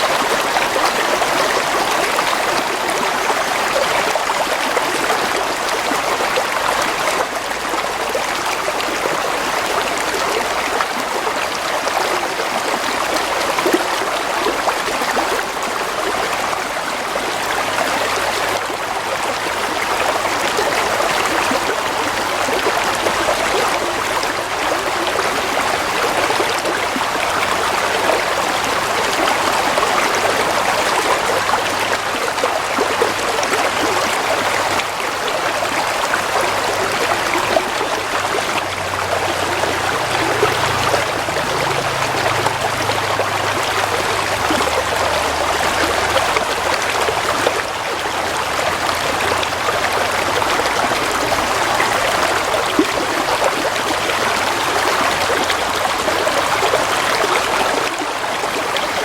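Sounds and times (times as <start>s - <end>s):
gently flowing water: 0.0s - 59.0s.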